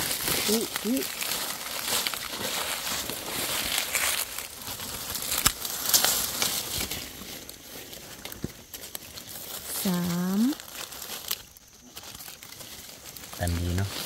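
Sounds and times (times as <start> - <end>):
dry leaves crunching: 0.0 - 14.0.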